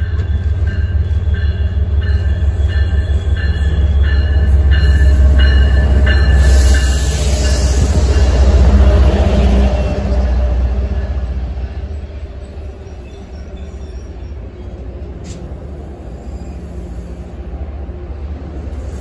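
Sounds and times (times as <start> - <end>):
diesel locomotive engine rumble: 0.0 - 19.0
train coaches rolling: 0.0 - 19.0.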